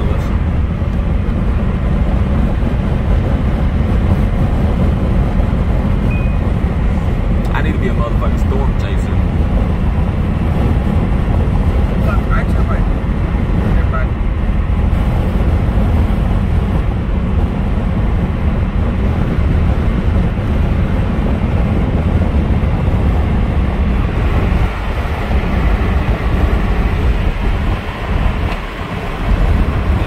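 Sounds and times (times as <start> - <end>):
car road and wind noise: 0.0 - 30.0.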